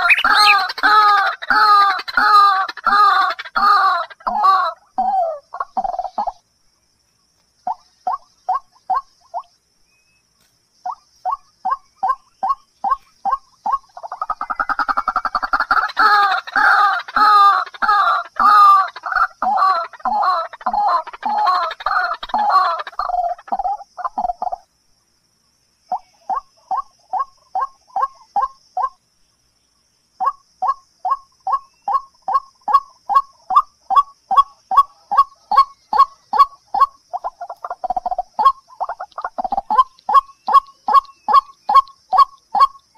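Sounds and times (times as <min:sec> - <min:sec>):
bird calling in fast series: 0:00.0 - 0:06.5, 0:07.6 - 0:24.7, 0:25.8 - 0:29.0, 0:30.2 - 0:42.9.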